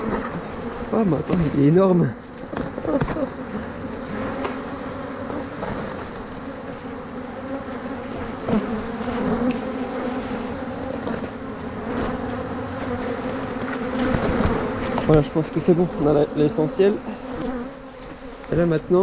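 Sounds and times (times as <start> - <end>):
bee swarm buzzing: 0.0 - 19.0.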